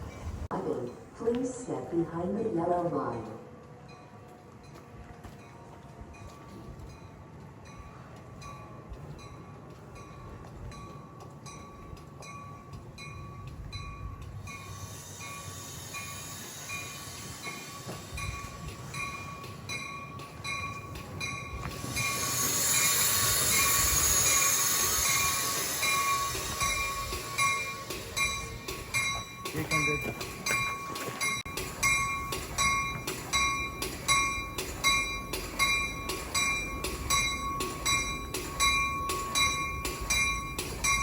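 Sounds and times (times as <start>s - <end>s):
crossing bell ringing: 0.0s - 41.0s
train rumble: 0.0s - 41.0s
train wheels squealing on rails: 3.8s - 41.0s.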